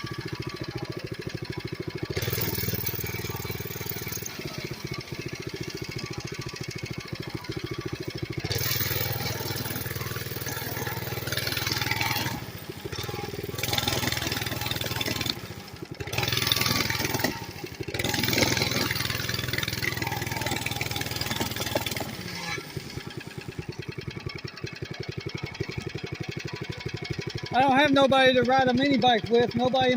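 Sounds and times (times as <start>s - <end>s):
mini bike engine: 0.0s - 29.9s.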